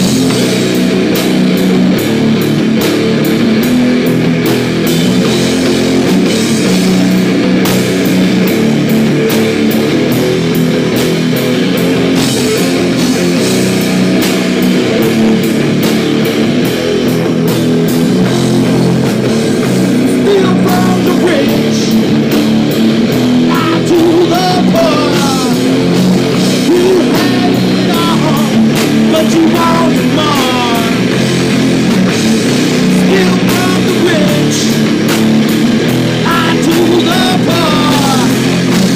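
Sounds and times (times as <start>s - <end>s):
distorted electric guitars: 0.0s - 38.9s
drum kit: 0.0s - 38.9s
sliding lead guitar notes: 0.0s - 38.9s.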